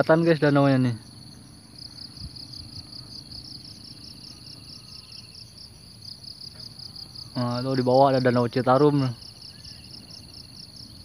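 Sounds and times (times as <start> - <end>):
fast insect trill: 0.0 - 11.0
insects chirping: 0.0 - 11.0.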